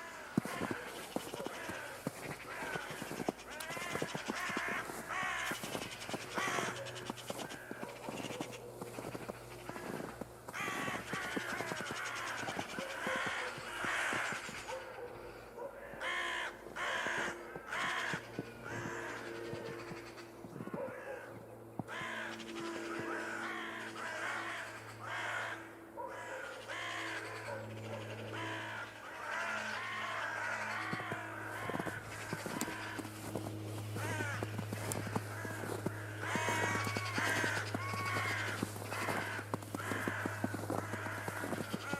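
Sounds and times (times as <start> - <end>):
flock of crows cawing: 0.0 - 41.9.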